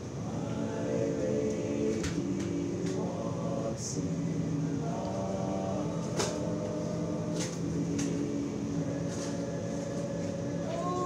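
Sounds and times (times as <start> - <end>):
a cappella group singing: 0.0 - 11.0.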